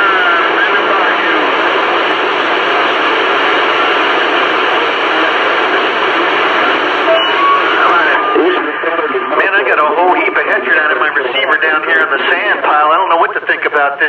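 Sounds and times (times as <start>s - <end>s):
faint garbled radio voices: 0.0s - 14.0s
radio static hiss: 0.0s - 14.0s.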